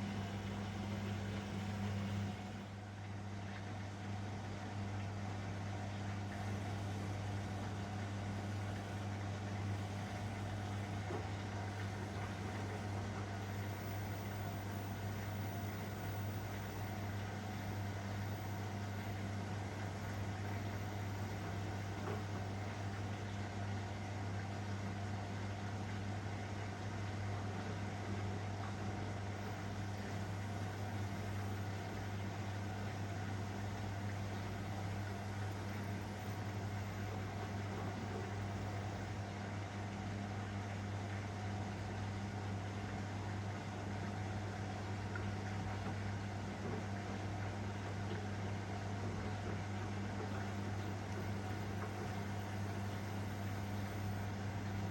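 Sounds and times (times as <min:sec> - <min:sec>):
washing machine humming: 0:00.0 - 0:54.9.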